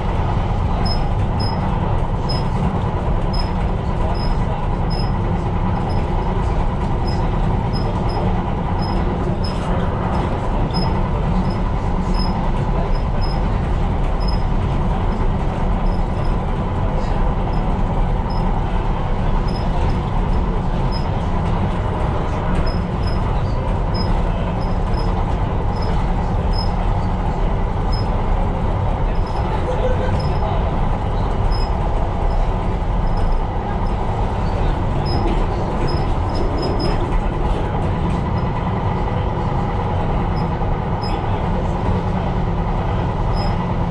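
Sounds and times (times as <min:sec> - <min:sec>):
train rumbling along track: 0:00.0 - 0:43.9.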